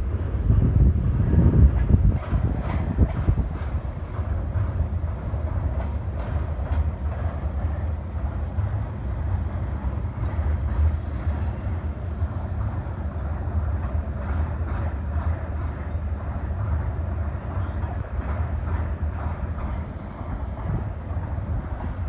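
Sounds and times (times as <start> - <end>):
freight train rumbling past: 0.0 - 22.0
train wheels clicking: 0.5 - 22.0.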